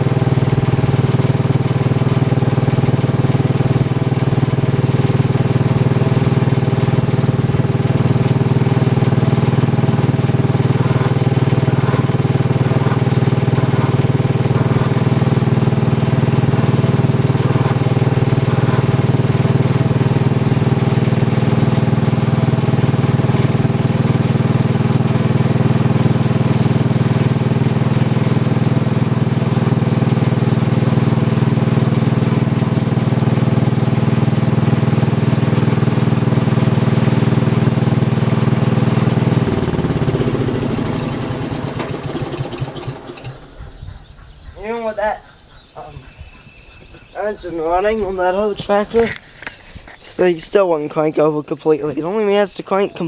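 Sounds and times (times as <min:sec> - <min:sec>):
lawn tractor engine running: 0:00.0 - 0:53.0.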